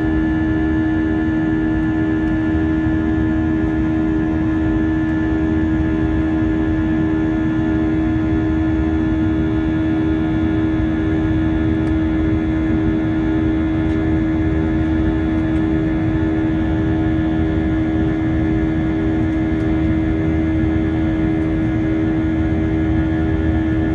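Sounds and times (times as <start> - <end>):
jet engines droning: 0.0 - 23.9.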